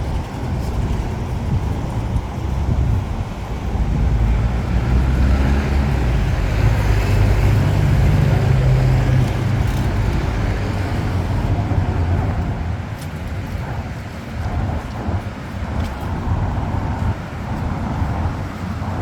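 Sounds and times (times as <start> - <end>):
road noise: 0.0 - 19.0
vehicle engine running close by: 0.0 - 19.0.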